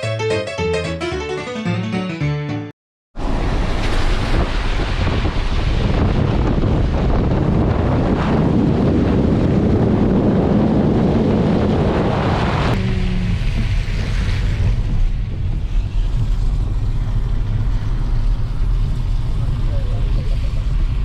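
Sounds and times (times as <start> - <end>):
wind buffeting microphone: 3.3 - 21.0.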